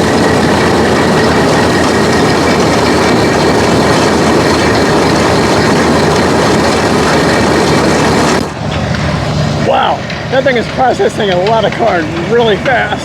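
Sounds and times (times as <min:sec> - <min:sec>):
corn shucker mechanical clatter: 0:00.0 - 0:13.0.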